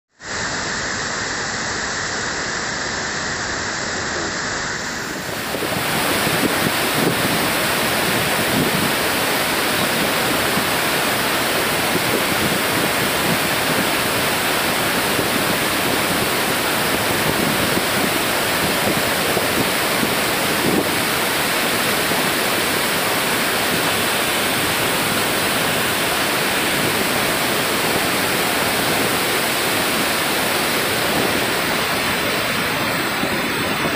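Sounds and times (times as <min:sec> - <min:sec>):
water rushing over weir: 0:00.2 - 0:33.9.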